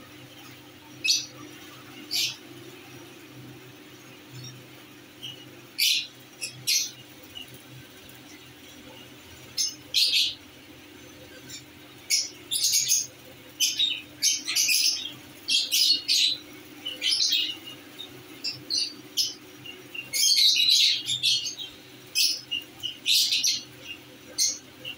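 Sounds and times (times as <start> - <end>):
lovebirds chirping: 0.3 - 24.9.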